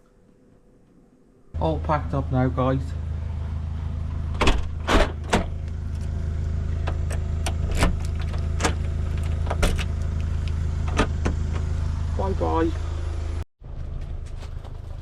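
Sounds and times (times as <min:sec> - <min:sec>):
car engine idling: 0:01.6 - 0:15.0.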